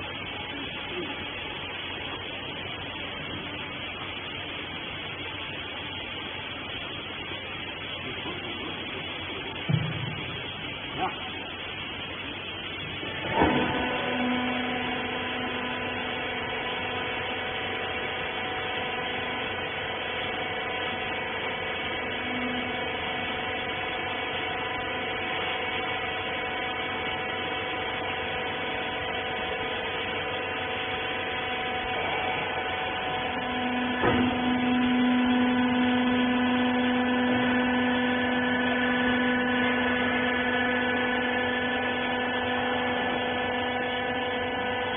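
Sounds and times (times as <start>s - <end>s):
hydraulic press pump hum: 0.0s - 44.9s.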